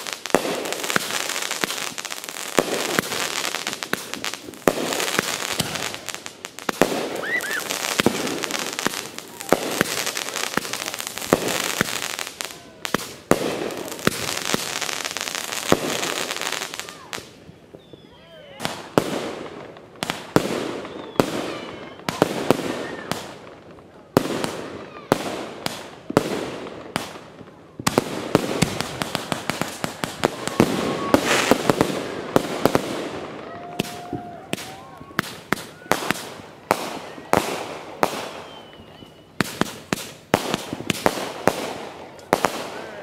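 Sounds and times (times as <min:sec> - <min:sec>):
fireworks booming: 0:00.0 - 0:43.0
fireworks crackle: 0:00.0 - 0:43.0.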